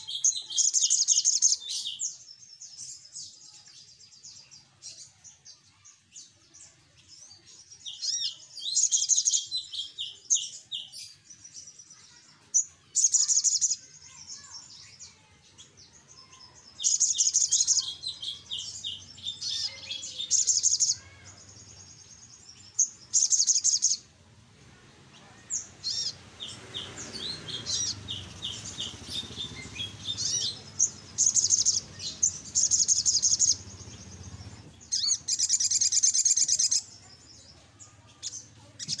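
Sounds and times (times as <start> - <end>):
sunbird chattering song: 0.0 - 24.1, 25.1 - 39.0.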